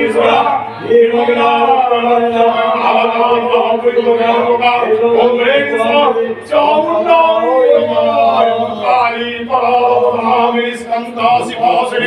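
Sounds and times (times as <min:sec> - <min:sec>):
man chanting over a loudspeaker: 0:00.0 - 0:12.0.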